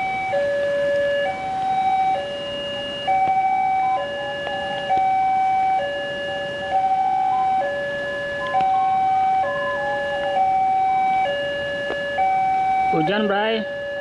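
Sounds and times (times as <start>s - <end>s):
two-tone level-crossing alarm: 0.0s - 14.0s.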